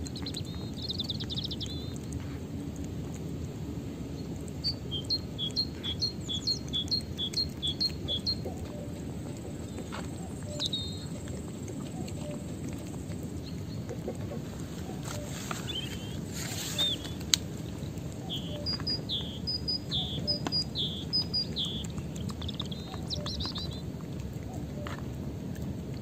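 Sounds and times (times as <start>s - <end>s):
songbird singing: 0.0s - 2.2s, 4.0s - 25.0s
low outdoor noise: 0.0s - 26.0s.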